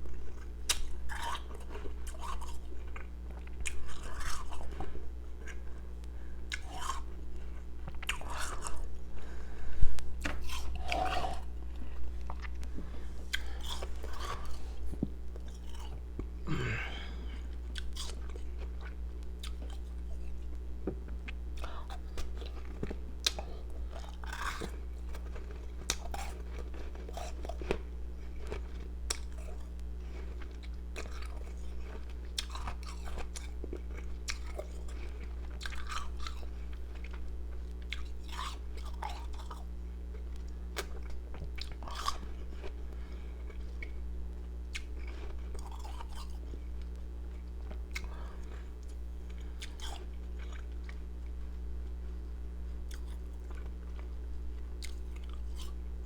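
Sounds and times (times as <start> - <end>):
low electrical hum: 0.0 - 56.0
chewing crunchy ice: 0.1 - 56.0.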